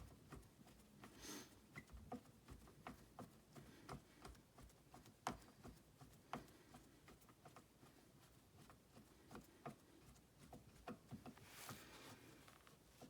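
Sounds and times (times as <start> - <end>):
faint clicks and knocks: 1.8 - 13.0.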